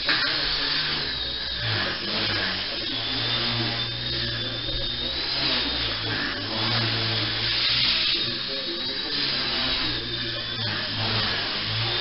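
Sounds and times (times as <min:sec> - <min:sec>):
high-pitched electric motor whine: 0:00.0 - 0:12.0
rotor whirring: 0:00.0 - 0:12.0.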